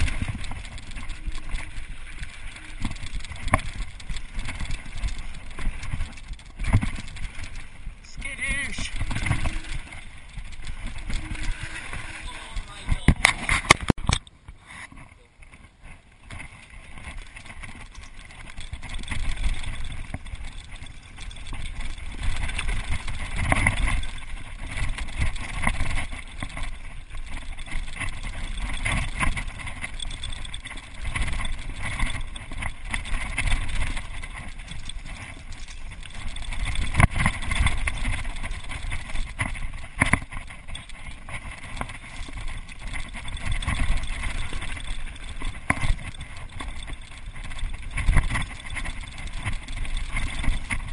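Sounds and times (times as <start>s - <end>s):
tyres rumbling on dirt: 0.0s - 14.2s, 15.5s - 50.9s
bike knocks and rattles: 0.0s - 50.9s.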